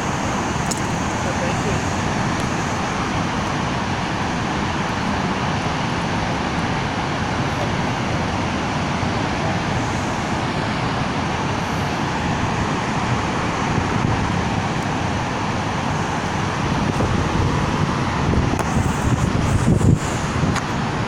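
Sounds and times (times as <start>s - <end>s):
floodwater rushing through gates: 0.0s - 21.0s.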